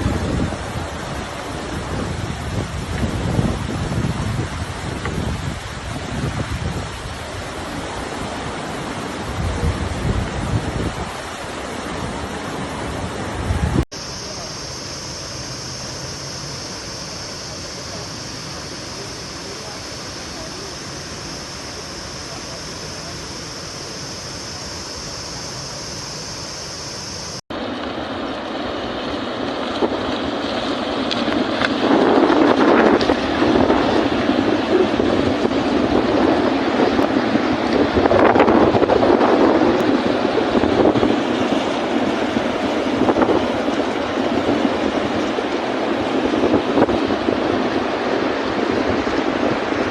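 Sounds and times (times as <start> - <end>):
wind on microphone: 0.0 - 27.4, 29.4 - 49.9
floodwater rushing: 0.0 - 49.9.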